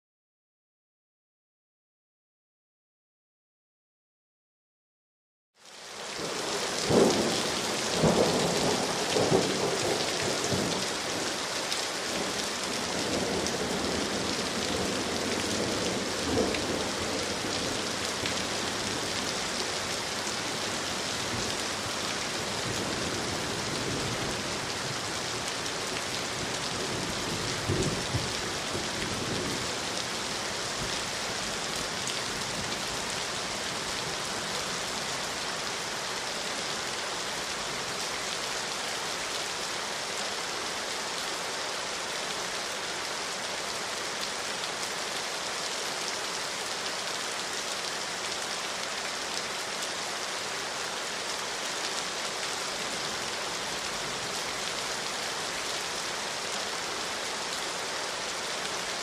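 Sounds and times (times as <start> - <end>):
rain on leaves: 5.6 - 59.0.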